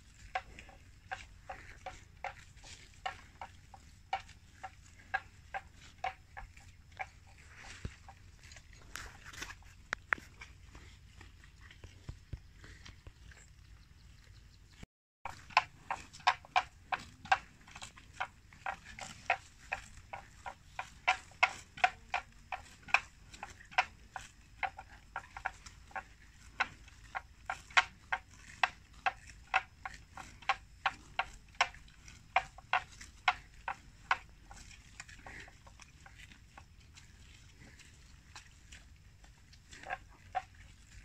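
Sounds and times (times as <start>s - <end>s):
buffalo tearing grass: 0.0s - 13.4s, 15.3s - 24.4s, 25.4s - 41.0s.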